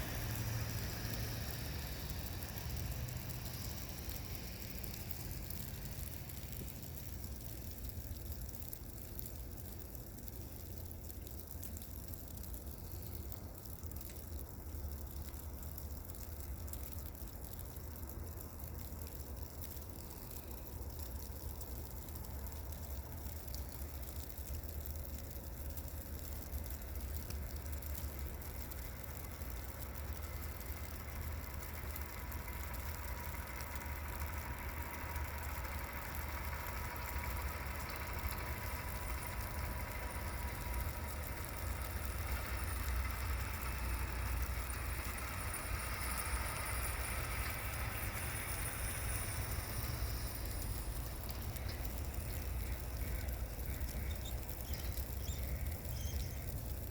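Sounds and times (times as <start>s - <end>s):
engine and road rumble: 0.0s - 56.9s.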